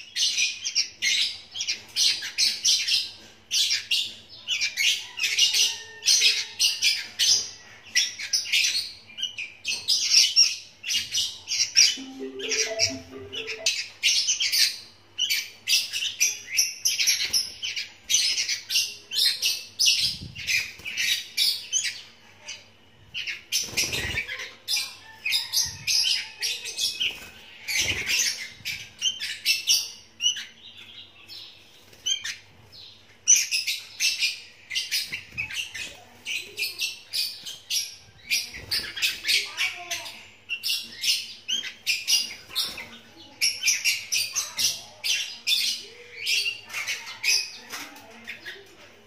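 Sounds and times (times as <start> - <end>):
young birds chirping: 0.0 - 49.0.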